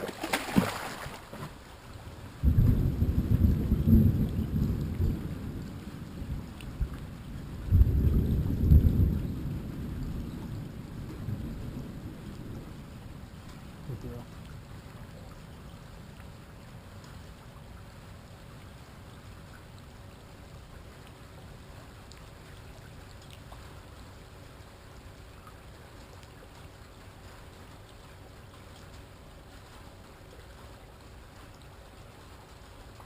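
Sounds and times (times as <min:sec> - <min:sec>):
rain and water hissing: 0:00.0 - 0:33.0.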